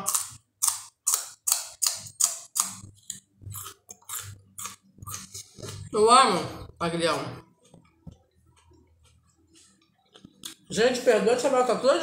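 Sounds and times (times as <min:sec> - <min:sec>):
person chewing food: 0:00.0 - 0:06.8, 0:07.4 - 0:10.7.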